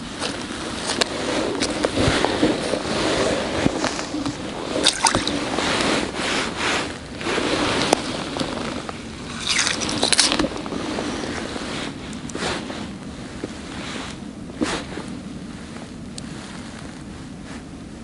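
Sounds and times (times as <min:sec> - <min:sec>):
hand crunching slushy snow: 0:00.0 - 0:17.1
rustling handling noise: 0:00.0 - 0:17.8
wind on microphone: 0:00.0 - 0:18.0.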